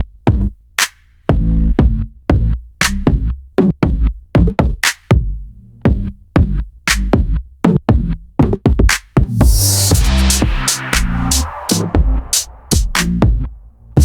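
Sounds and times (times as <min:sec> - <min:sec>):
electronic music with drum beat: 0:01.3 - 0:13.5.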